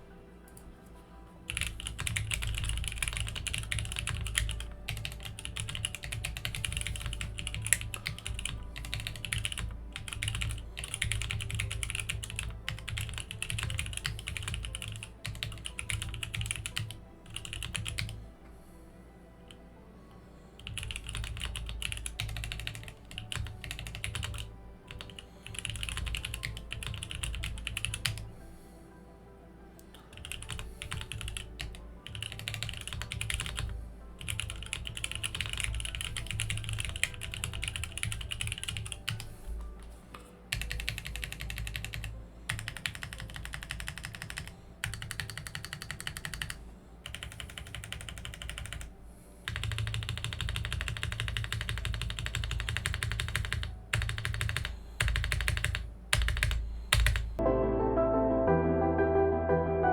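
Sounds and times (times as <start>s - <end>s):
background music: 0.0s - 59.9s
mechanical keyboard typing: 1.5s - 18.2s, 20.6s - 28.3s, 29.8s - 39.3s, 40.1s - 48.9s, 49.5s - 57.4s.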